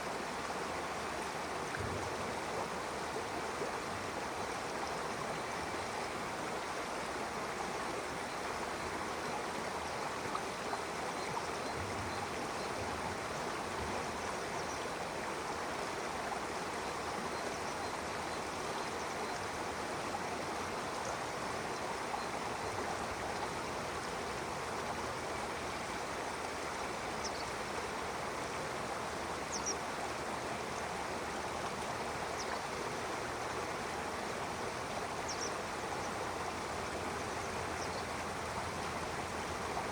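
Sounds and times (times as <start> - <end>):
stream rushing and burbling: 0.0 - 39.9.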